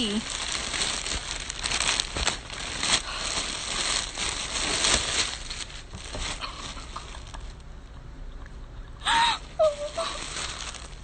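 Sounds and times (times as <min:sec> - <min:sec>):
packaging crinkling and rustling: 0:00.0 - 0:07.6, 0:09.6 - 0:11.0.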